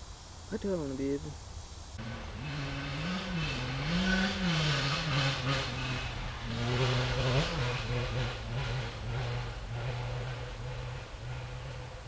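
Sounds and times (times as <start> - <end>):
engine revving: 2.0 - 12.0.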